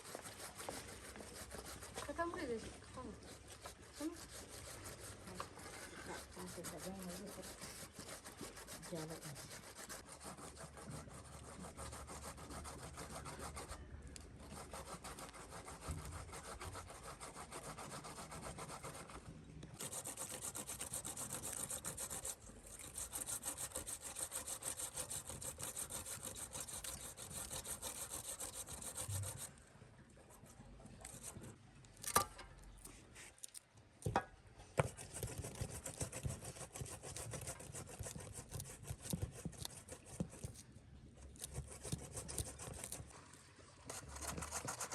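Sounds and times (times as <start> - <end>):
scraping strokes on hard surface: 0.0 - 13.8, 14.4 - 29.6, 34.8 - 40.6, 41.3 - 44.9.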